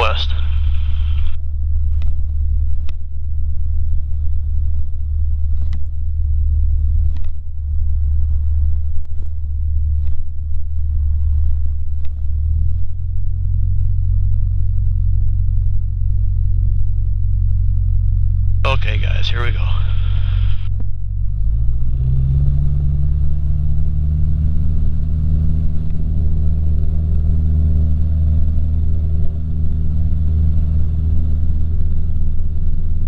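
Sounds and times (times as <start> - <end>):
light aircraft engine running: 0.0 - 33.0.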